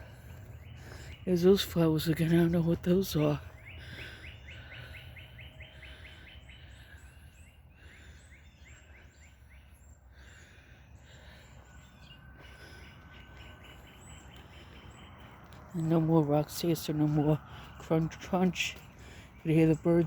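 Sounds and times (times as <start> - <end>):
wild birds singing: 0.0 - 20.0.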